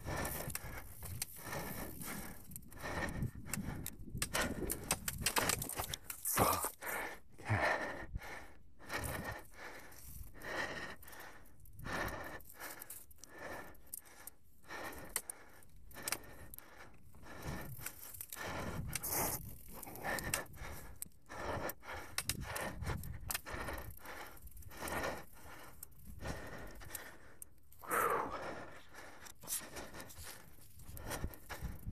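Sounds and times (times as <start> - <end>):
rider breathing hard: 0.0 - 31.9.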